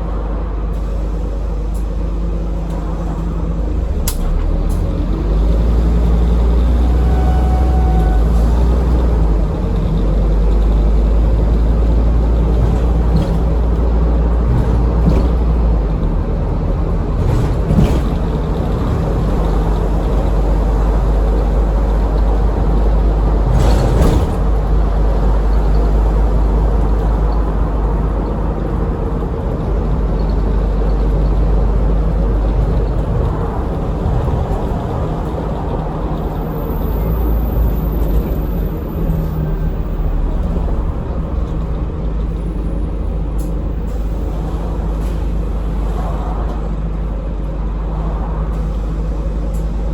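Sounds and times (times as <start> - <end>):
bus engine rumbling: 0.0 - 49.9.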